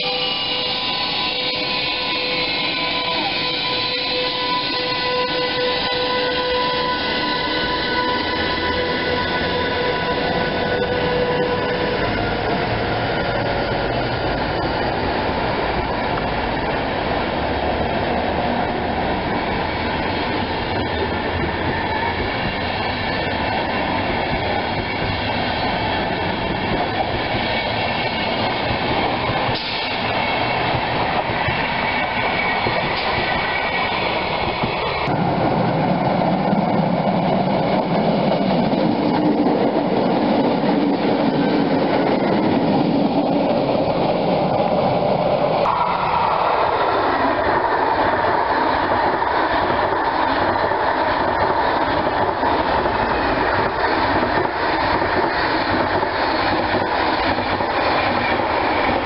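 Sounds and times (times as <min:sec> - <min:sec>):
passenger train passing: 0:00.0 - 0:59.0.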